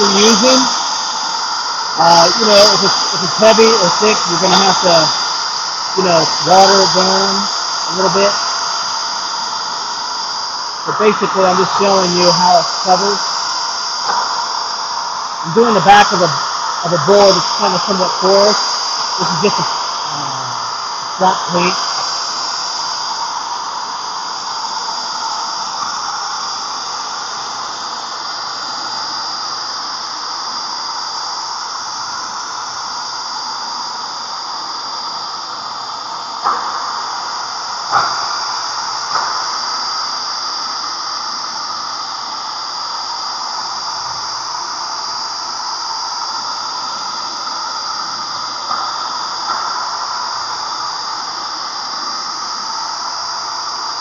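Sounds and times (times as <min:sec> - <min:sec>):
paint sprayer motor whine: 0:00.0 - 0:54.0.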